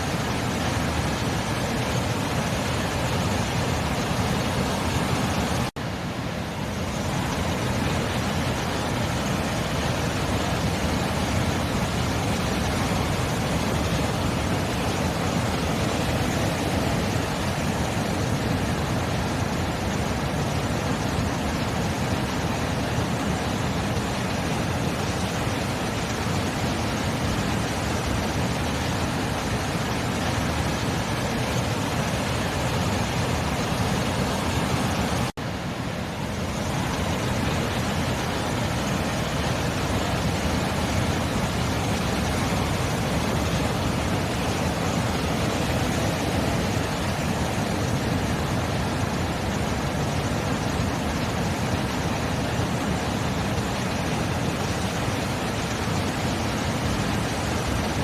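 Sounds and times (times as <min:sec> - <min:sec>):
sea surf rushing: 0:00.0 - 0:58.0.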